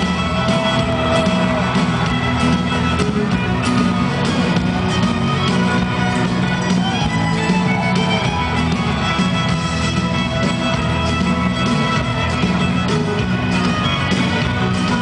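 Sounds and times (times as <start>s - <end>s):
live folk-rock band playing: 0.0s - 15.0s.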